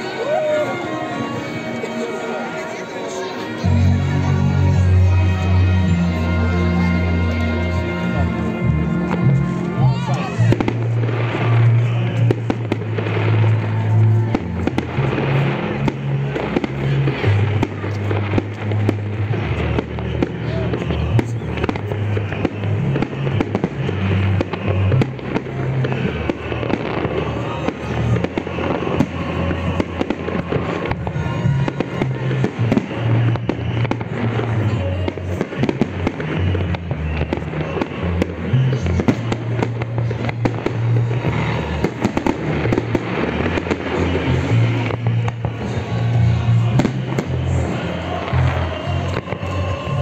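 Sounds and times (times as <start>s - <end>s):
fireworks bursting and crackling: 0.0s - 50.0s
music with low bass: 3.6s - 50.0s.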